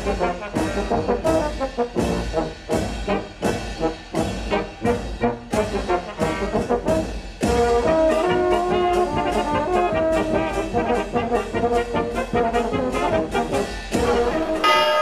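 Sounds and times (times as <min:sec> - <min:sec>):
brass melody over a beat: 0:00.0 - 0:15.0.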